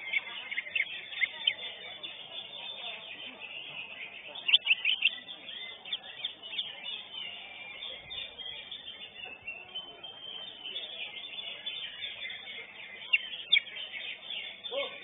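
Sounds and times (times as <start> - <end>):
bird singing chirps and whistles: 0.0 - 15.0.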